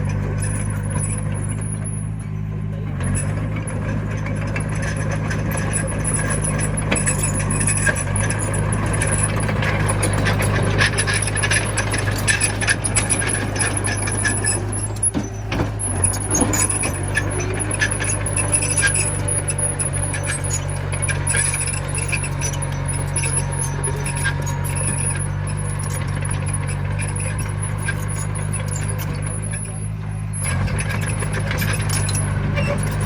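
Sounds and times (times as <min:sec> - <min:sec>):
diesel engine running: 0:00.0 - 0:33.0
metal tracks clinking and clanking: 0:00.0 - 0:33.0.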